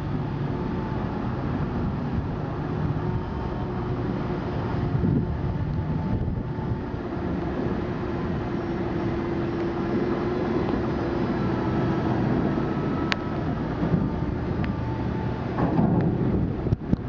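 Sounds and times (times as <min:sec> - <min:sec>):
low machinery rumble: 0:00.0 - 0:17.0
steady hum: 0:00.0 - 0:17.0.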